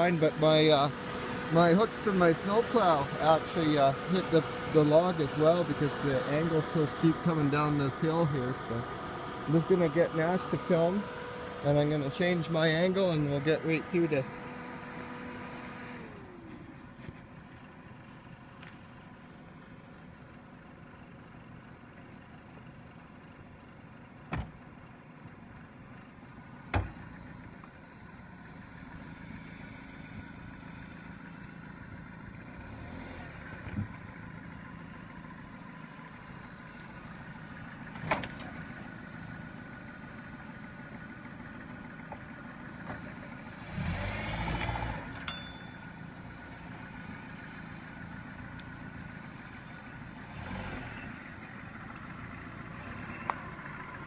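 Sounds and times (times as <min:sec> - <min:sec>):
car engine running low: 0:00.0 - 0:54.0.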